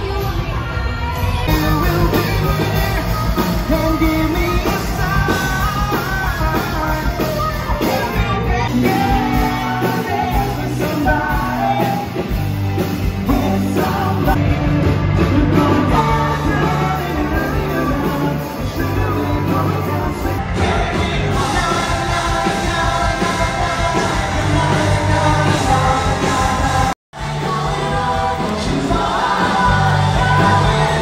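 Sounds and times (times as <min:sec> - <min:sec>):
drums: 0:00.0 - 0:31.0
electric guitars: 0:00.0 - 0:31.0
man singing: 0:01.5 - 0:12.4, 0:13.0 - 0:14.4, 0:15.2 - 0:31.0.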